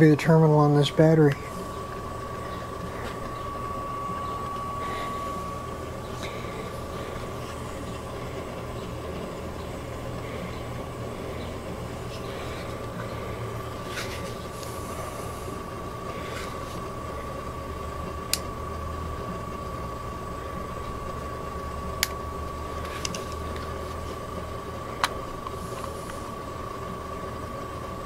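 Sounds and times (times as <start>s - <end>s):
low background hum: 0.0s - 28.0s
thin high whine: 0.0s - 28.0s.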